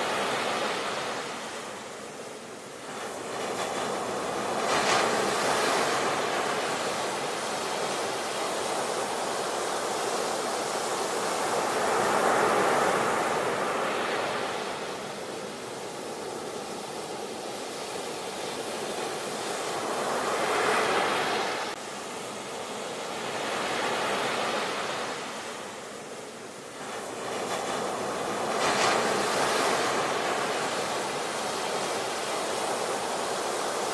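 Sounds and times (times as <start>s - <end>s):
waves breaking on beach: 0.0s - 33.9s.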